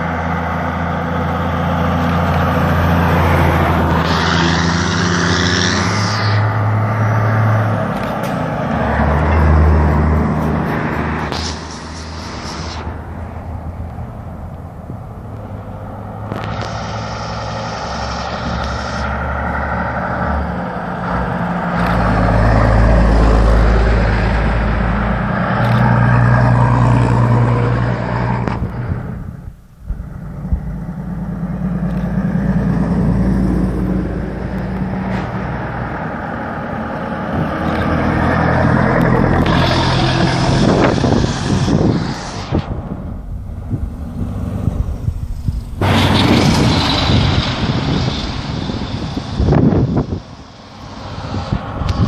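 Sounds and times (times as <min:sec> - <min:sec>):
heavy truck diesel engines: 0:00.0 - 0:52.0.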